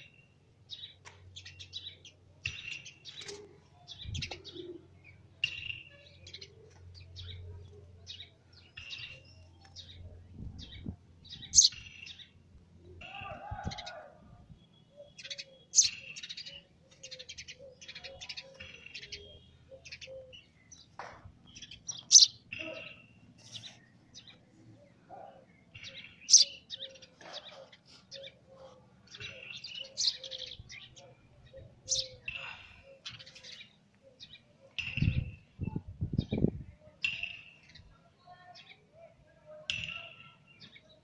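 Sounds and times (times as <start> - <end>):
sparrow chirping: 0.0 - 13.8, 14.6 - 38.8.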